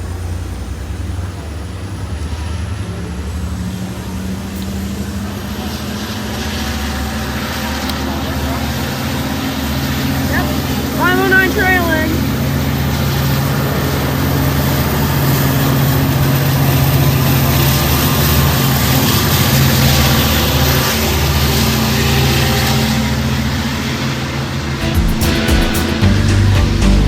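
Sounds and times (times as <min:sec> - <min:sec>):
diesel locomotive engine droning: 0:00.0 - 0:27.0.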